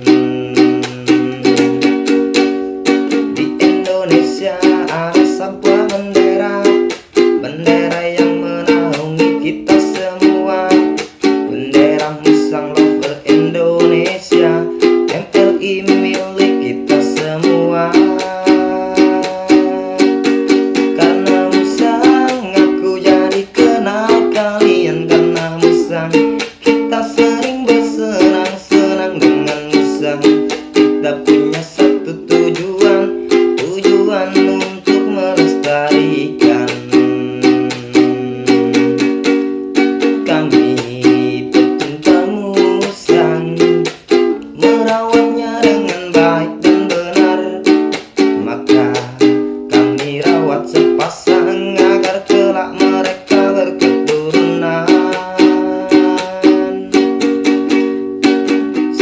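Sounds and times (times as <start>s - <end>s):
man singing: 0.0s - 59.0s
ukulele strumming: 0.0s - 59.0s.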